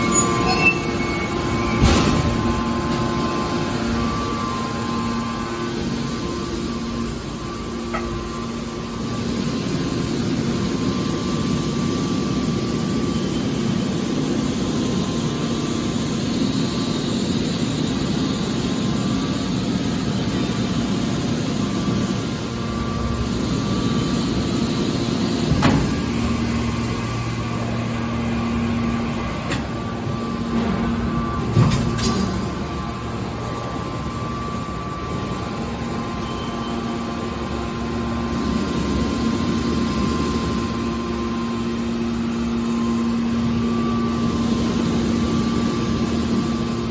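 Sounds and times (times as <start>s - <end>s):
baler machinery humming: 0.0s - 46.9s.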